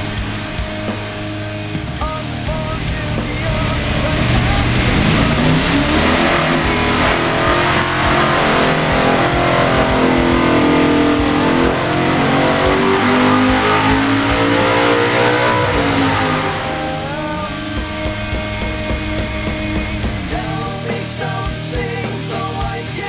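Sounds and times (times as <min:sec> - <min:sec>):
vee eight engine revving under load: 0:00.0 - 0:21.0.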